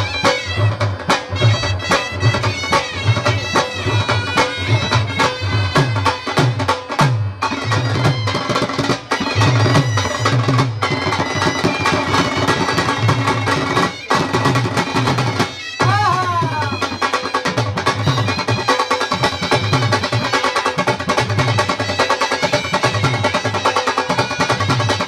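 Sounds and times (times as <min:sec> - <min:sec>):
dhol drums beating: 0:00.0 - 0:25.0
reed wind instrument melody: 0:00.0 - 0:25.0.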